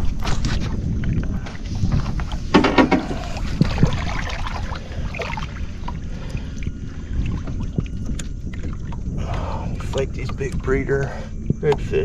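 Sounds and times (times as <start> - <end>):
steady low rumble: 0.0 - 12.0
water splashing: 0.0 - 12.0.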